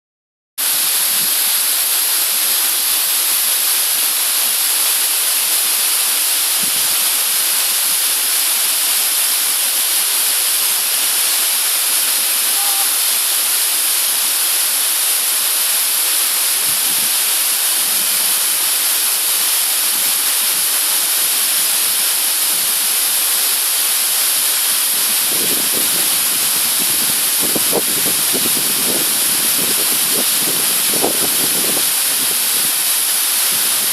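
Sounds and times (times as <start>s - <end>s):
rushing water hiss: 0.6s - 33.9s.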